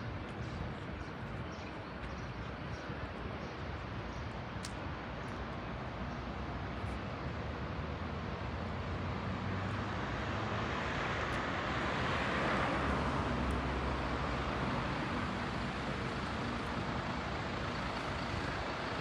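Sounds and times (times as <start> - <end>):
hum of city traffic: 0.0 - 19.0.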